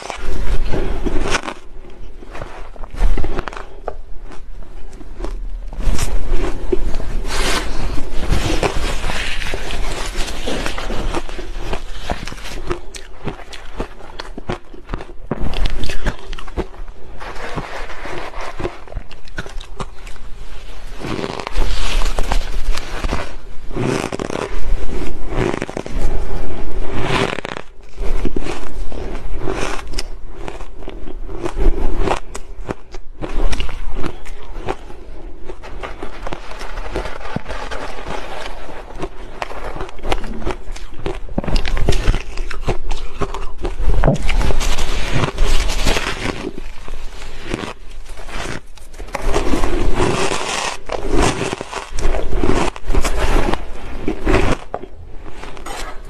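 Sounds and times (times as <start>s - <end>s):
crunching shaved ice: 0.0s - 56.0s.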